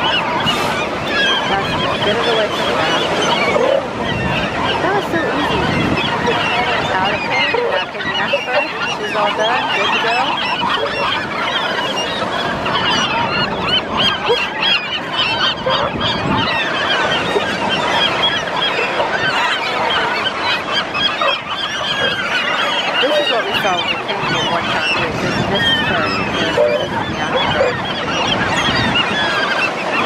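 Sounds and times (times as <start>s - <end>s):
flock of gulls squawking: 0.0s - 30.0s.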